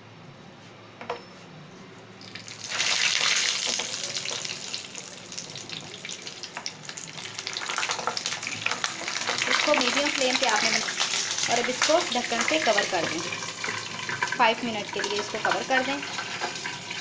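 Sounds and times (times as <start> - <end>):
deep-frying sizzle with pops: 2.2 - 17.0.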